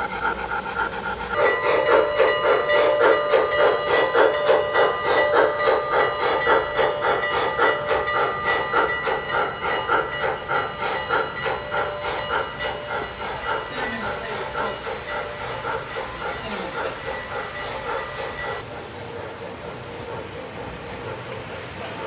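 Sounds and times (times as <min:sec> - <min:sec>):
model steam locomotive chuffing: 0:00.0 - 0:22.0
steady tones: 0:00.0 - 0:22.0.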